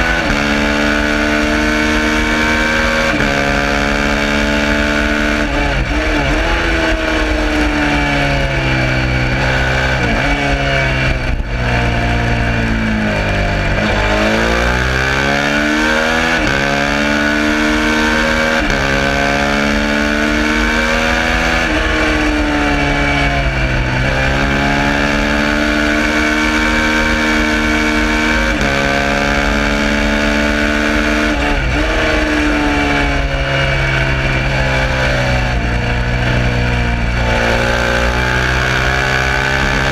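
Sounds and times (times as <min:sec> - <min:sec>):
motorcycle engine revving through gears: 0:00.0 - 0:39.9
wind rushing over microphone: 0:00.0 - 0:39.9.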